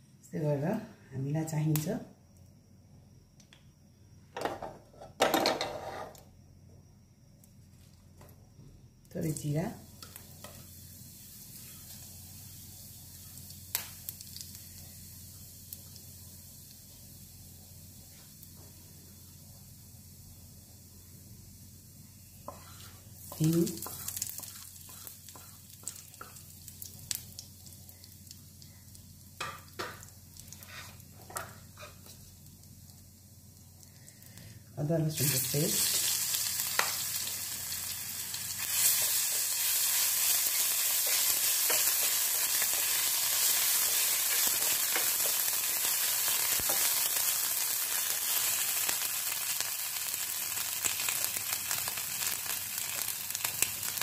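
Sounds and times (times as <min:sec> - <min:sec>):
seeds sizzling in hot oil: 0:07.2 - 0:54.0.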